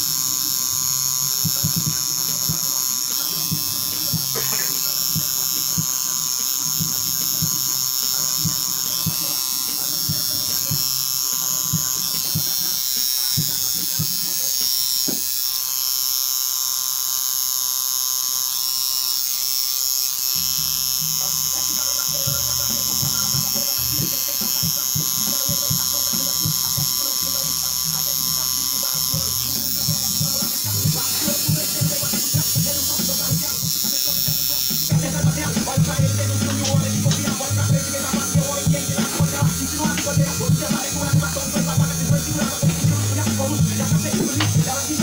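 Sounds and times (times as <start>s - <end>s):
tattoo machine buzzing: 0.0s - 45.0s.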